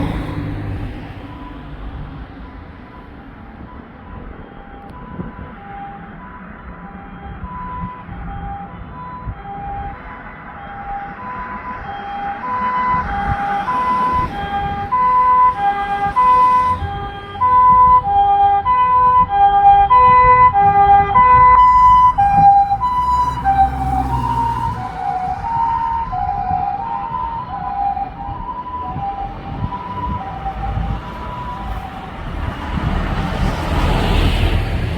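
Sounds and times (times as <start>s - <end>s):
ambulance hi-lo siren: 0.0s - 34.9s.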